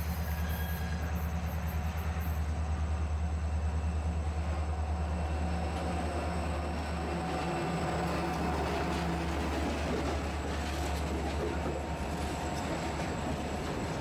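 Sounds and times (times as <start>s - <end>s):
locomotive engine rumbling: 0.0s - 14.0s.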